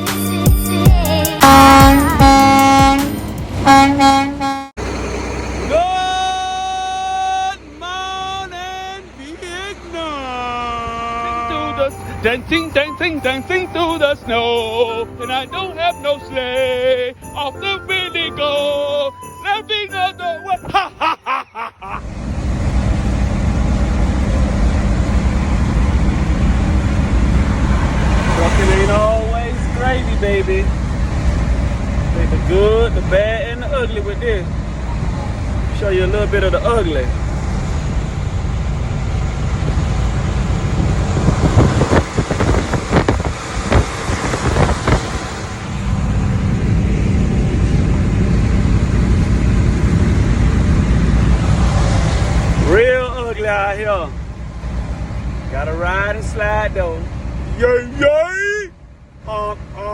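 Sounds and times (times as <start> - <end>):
road noise: 0.0 - 59.9
truck diesel engine: 0.0 - 59.9.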